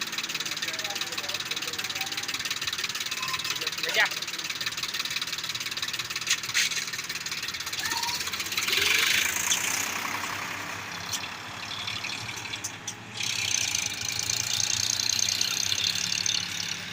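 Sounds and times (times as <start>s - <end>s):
diesel tractor engine running: 0.0s - 16.9s.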